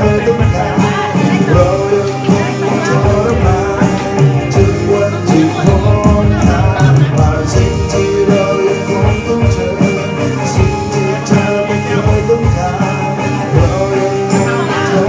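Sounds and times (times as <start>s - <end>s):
drum kit beat: 0.0s - 15.0s
electric guitars: 0.0s - 15.0s.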